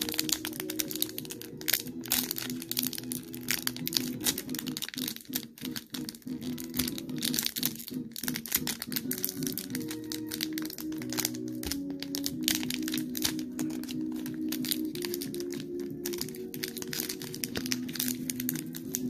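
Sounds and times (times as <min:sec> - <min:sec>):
background music: 0:00.0 - 0:19.0
foil wrapper crinkling: 0:00.0 - 0:19.0.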